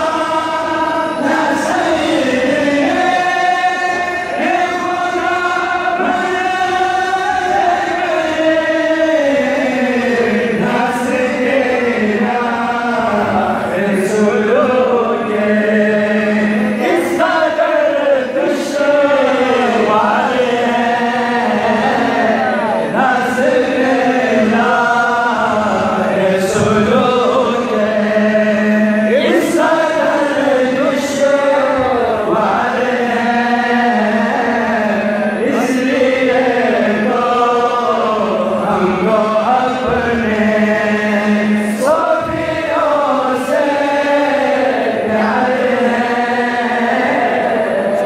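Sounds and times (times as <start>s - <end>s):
man chanting over loudspeakers: 0.0s - 48.0s.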